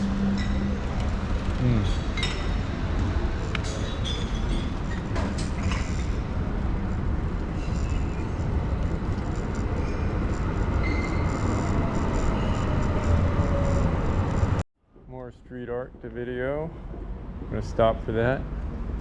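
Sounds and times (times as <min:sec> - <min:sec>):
street traffic noise: 0:00.0 - 0:14.6, 0:15.5 - 0:19.0.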